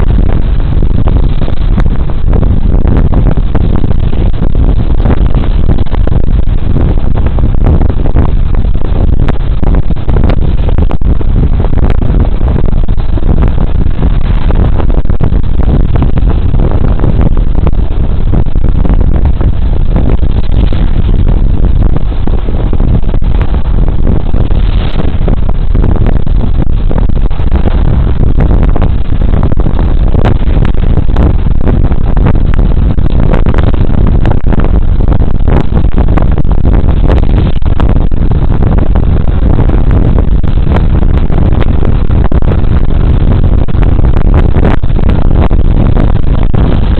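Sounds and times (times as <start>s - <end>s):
wind and road noise: 0.0s - 46.9s.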